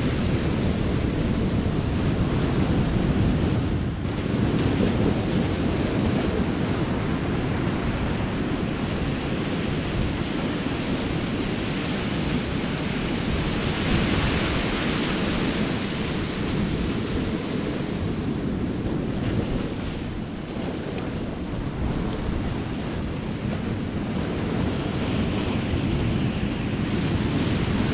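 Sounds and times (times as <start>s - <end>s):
sea waves: 0.0s - 27.9s
wind buffeting microphone: 0.0s - 27.9s.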